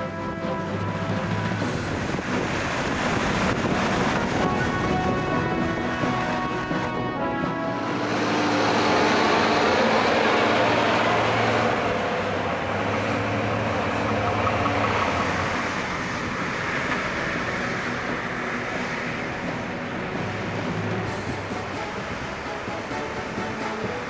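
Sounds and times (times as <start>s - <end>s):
truck diesel engine under load: 0.4s - 7.0s, 7.6s - 24.0s.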